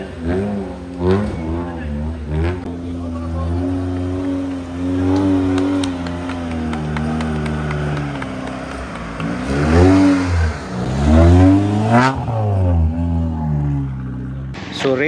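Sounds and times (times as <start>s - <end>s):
engine revving: 0.0s - 14.7s.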